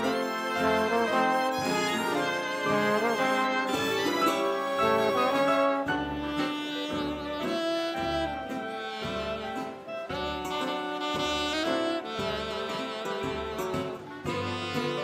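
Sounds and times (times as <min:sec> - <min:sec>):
big band swing music: 0:00.0 - 0:15.0.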